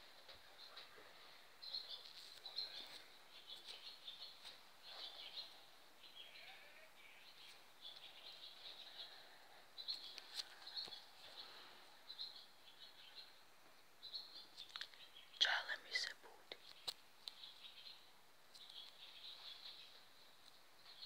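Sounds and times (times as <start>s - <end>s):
faint birdsong chirping: 0.0s - 21.0s.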